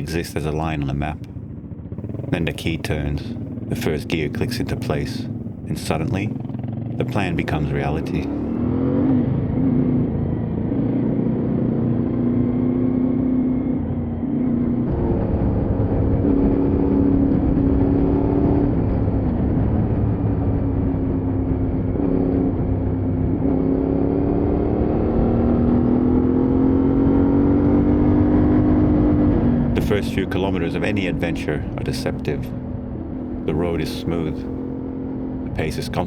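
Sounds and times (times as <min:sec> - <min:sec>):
motorcycle engines accelerating: 0:00.0 - 0:36.0.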